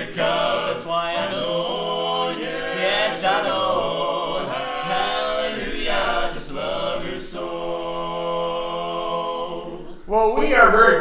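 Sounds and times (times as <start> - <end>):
male quartet singing a cappella: 0.0 - 11.0.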